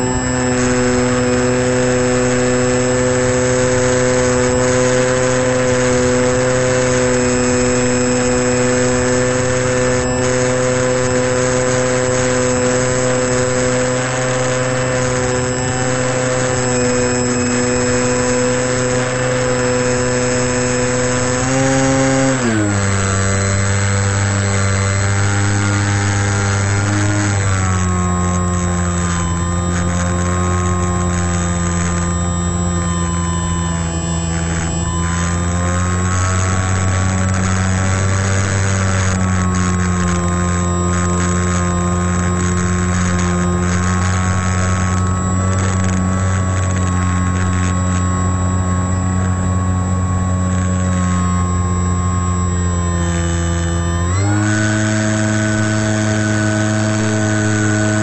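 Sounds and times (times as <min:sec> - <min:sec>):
model airplane motor whine: 0:00.0 - 0:58.0.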